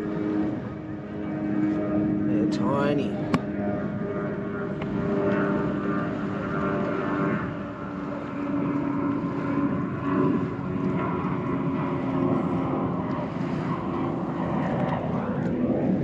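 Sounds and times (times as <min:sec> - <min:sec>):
continuous rushing noise: 0:00.0 - 0:16.0
engine drone: 0:00.0 - 0:16.0.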